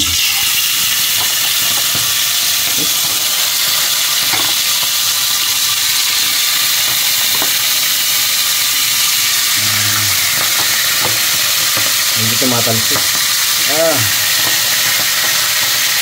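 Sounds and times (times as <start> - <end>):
oil popping: 0.0 - 16.0
shrimp sizzling in hot oil: 0.0 - 16.0.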